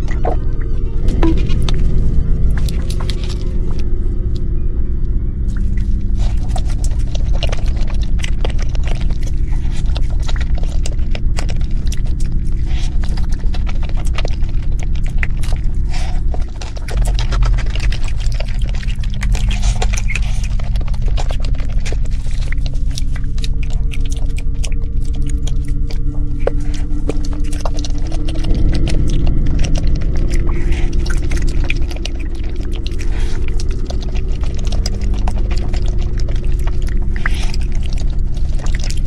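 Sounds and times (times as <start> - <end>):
chewing cake: 0.0 - 39.0
low droning hum: 0.0 - 39.0.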